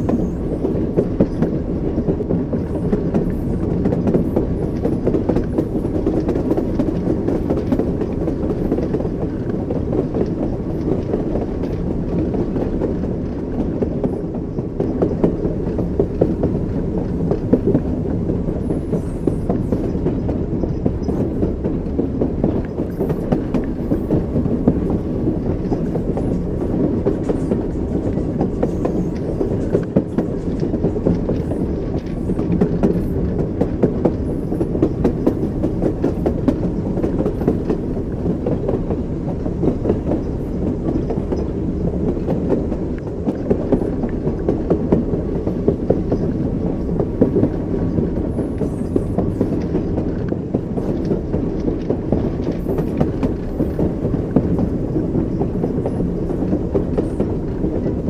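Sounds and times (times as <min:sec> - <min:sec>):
train wheels rumbling: 0:00.0 - 0:58.0
wheels clacking over rail joints: 0:00.0 - 0:58.0.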